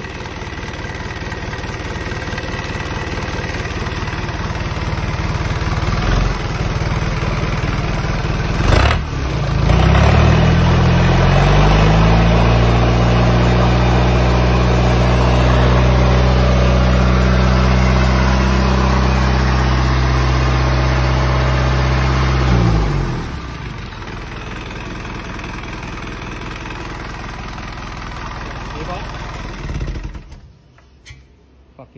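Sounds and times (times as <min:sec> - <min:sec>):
diesel engine revving: 0:00.0 - 0:30.5.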